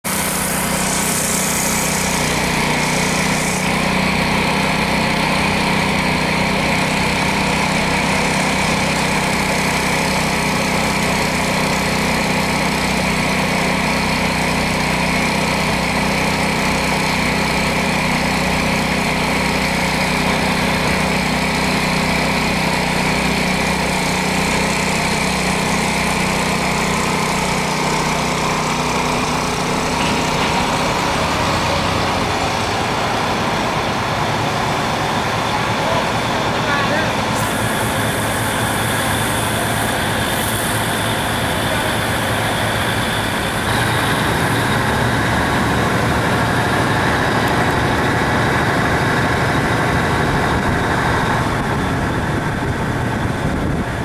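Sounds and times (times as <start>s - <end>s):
diesel engine idling: 0.1s - 54.0s.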